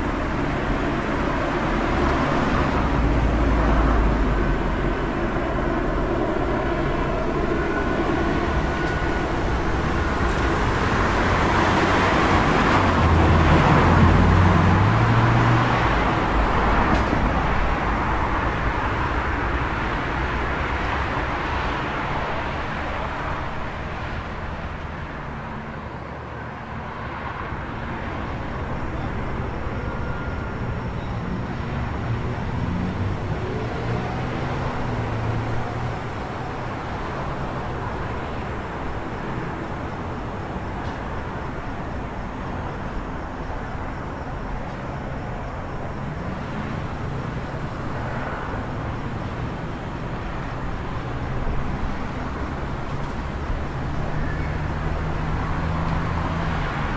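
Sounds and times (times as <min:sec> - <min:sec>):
vehicles passing: 0:00.0 - 0:56.9.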